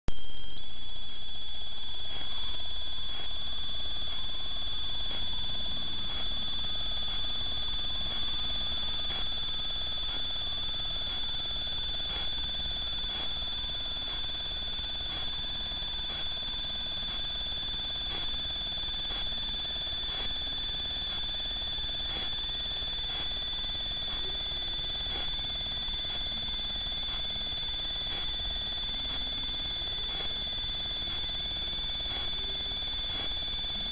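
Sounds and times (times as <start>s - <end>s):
high-pitched electronic whine: 0.1s - 33.9s
faint ticks: 2.1s - 33.9s.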